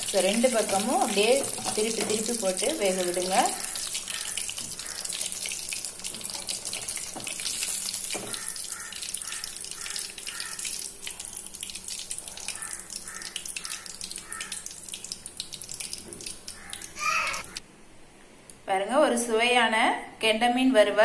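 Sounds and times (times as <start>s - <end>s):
fish sizzling in hot oil: 0.0s - 16.9s.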